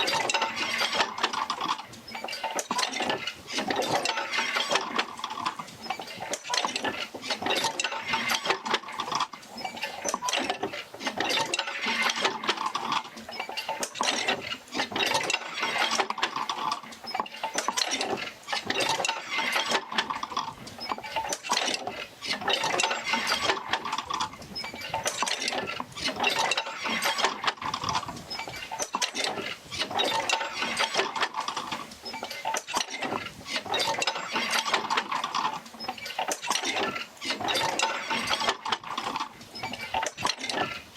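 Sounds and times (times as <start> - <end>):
rhythmic mechanical clatter: 0.0 - 40.9.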